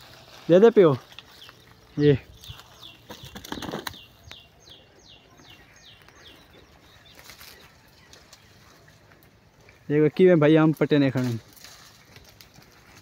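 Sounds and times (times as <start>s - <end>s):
leaves rustling: 0.0s - 4.2s, 5.7s - 13.0s.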